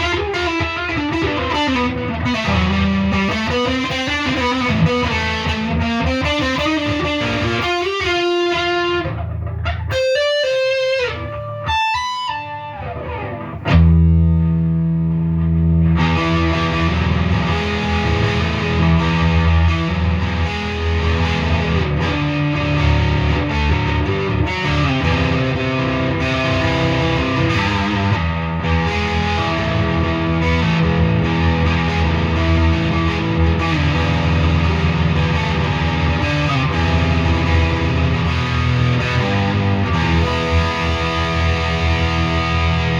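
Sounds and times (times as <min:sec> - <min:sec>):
overdriven electric guitar: 0:00.0 - 0:42.9.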